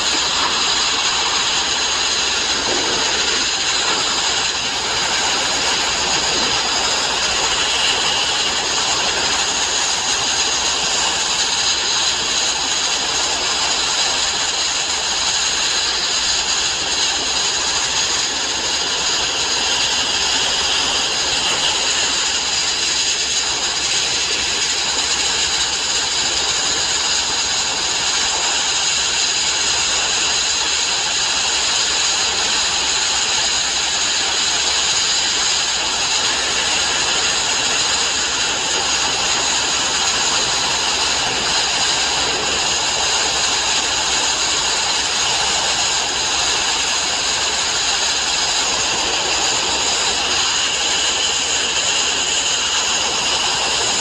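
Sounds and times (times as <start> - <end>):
sandblasting nozzle hiss: 0.0 - 54.0.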